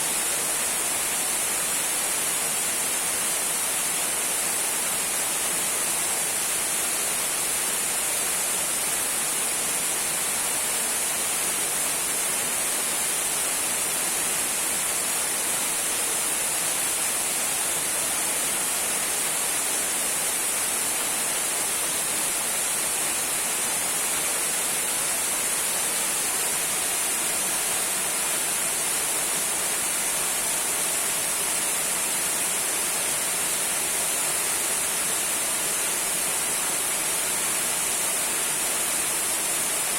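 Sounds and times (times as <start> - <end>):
small waterfall trickling: 0.0 - 39.9.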